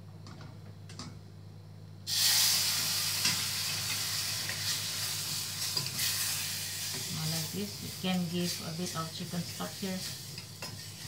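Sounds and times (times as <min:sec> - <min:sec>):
spices sizzling in oil: 0:02.1 - 0:11.0.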